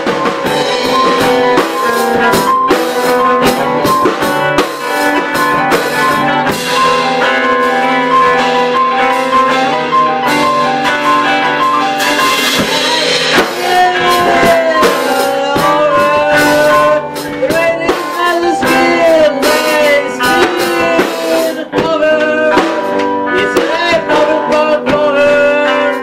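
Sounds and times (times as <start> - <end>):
short struck accents: 0.0 - 21.6
live band with electric guitar: 0.0 - 26.0.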